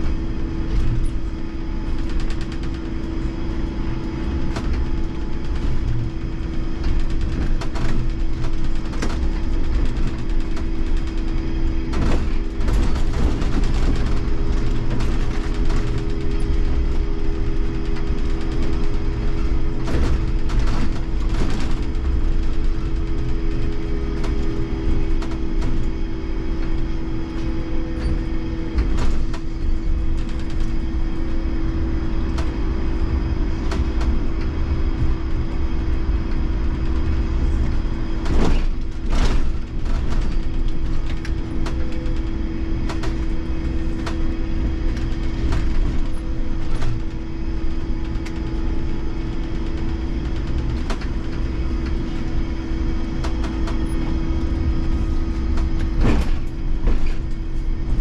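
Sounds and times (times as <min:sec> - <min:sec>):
trolleybus rumble and hum: 0:00.0 - 0:58.0.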